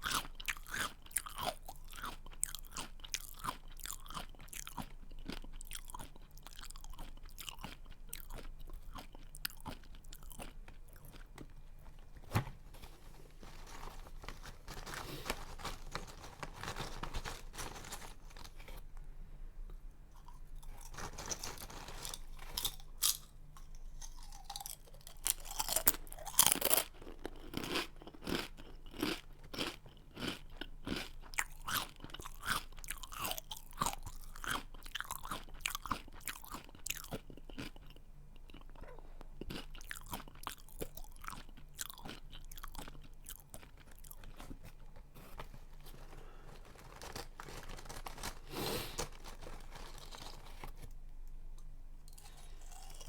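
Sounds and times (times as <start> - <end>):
person chewing crunchy snack: 0.0 - 12.2, 13.0 - 18.9, 20.1 - 50.9, 52.1 - 53.0.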